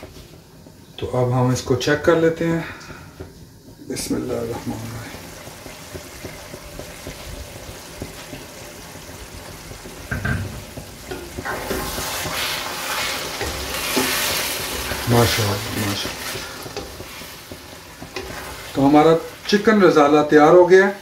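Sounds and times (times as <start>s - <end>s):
curry simmering and bubbling: 0.0s - 21.0s
wooden spatula stirring gravy: 0.0s - 21.0s.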